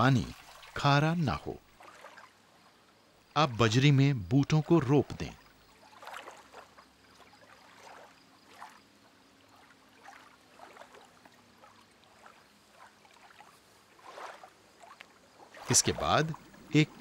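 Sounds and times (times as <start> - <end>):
water splashes and drips: 0.0 - 3.0, 4.6 - 17.0.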